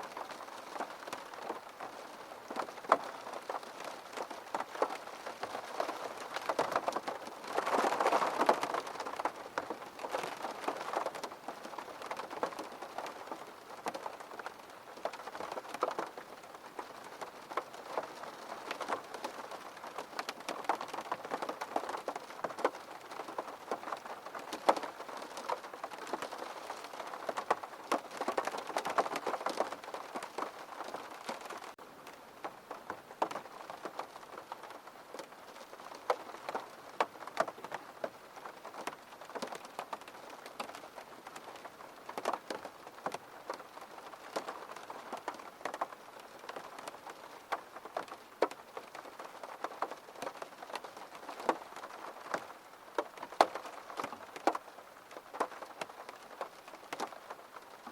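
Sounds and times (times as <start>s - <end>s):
rain drops tapping on a surface: 0.0s - 57.9s.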